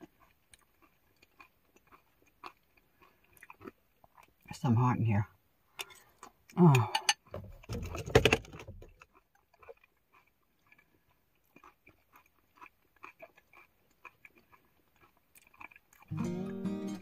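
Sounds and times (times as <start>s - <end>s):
person chewing crunchy food: 0.0s - 4.5s, 5.7s - 17.0s.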